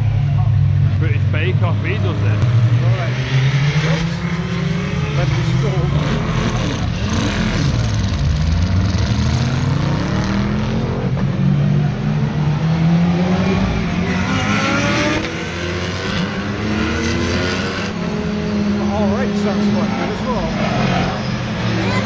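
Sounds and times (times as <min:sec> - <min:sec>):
race cars passing at speed: 0:00.0 - 0:22.0.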